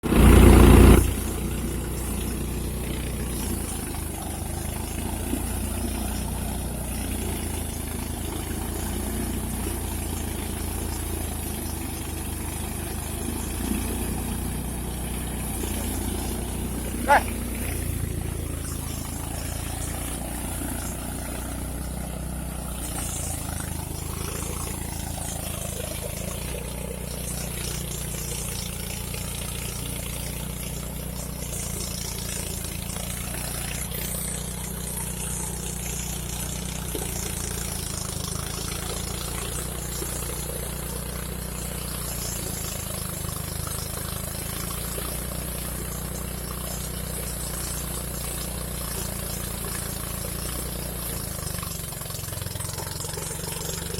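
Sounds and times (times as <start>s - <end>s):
harvester engine droning: 0.0s - 53.9s.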